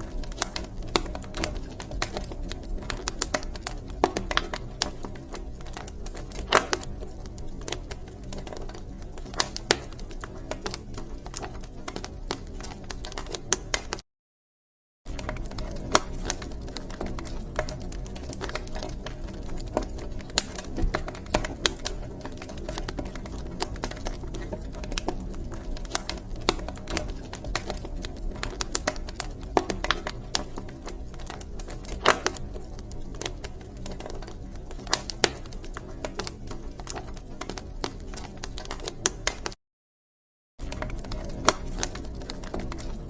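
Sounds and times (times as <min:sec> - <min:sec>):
wood fire crackling: 0:00.0 - 0:14.0, 0:15.1 - 0:39.6, 0:40.6 - 0:43.0.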